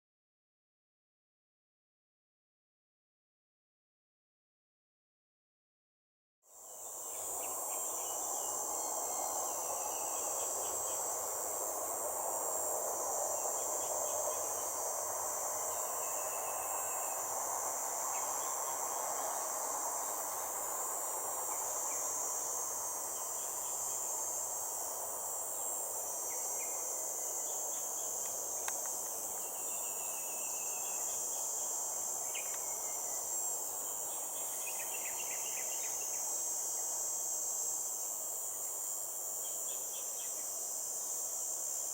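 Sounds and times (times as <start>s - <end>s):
high-pitched insect chorus: 6.5s - 41.9s.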